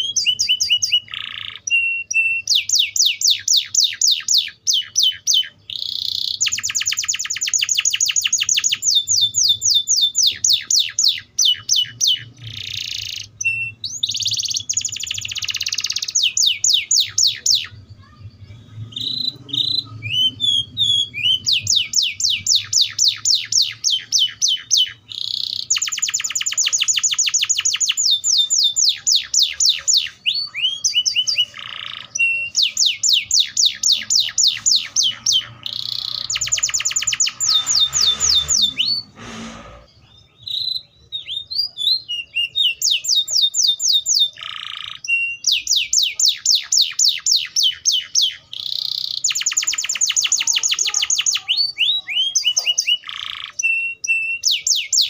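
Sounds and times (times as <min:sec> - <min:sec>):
canary singing trills: 0:00.0 - 0:55.0
soft bird chirps: 0:00.0 - 0:55.0.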